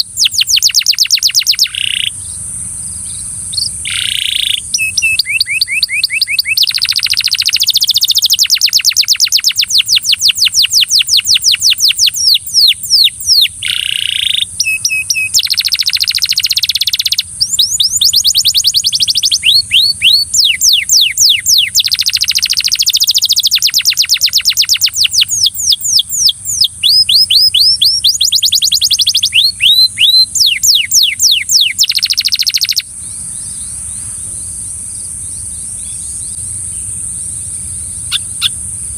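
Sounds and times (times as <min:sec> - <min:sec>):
canary singing trills: 0:00.0 - 0:38.9
steady high chirring: 0:06.4 - 0:38.9.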